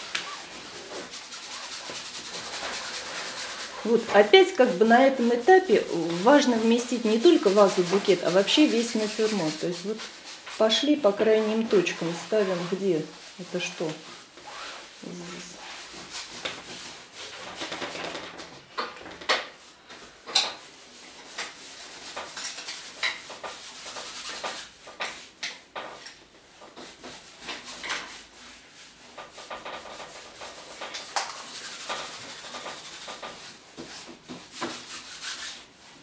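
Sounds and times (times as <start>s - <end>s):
paintbrush scratching on canvas: 0.0s - 18.0s, 21.2s - 36.0s.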